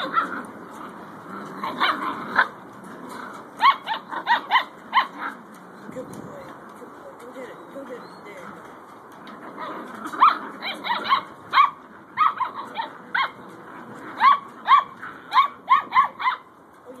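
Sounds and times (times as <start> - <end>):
puppies yapping: 0.0 - 5.9, 7.4 - 16.7.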